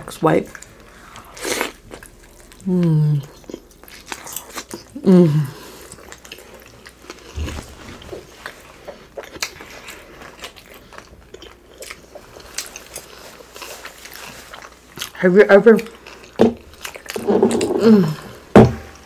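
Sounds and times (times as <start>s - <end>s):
chewing and mouth sounds: 0.4s - 18.4s.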